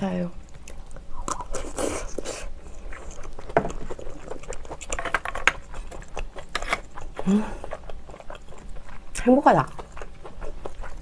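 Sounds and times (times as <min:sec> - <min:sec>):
wet chewing clicks and smacks: 0:00.4 - 0:11.0.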